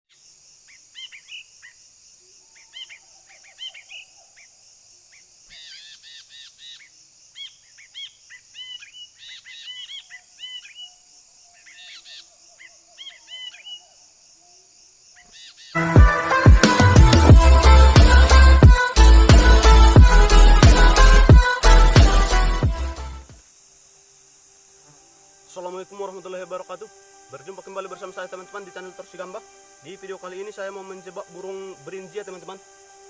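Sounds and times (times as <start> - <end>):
high-pitched insect drone: 4.6 - 33.0.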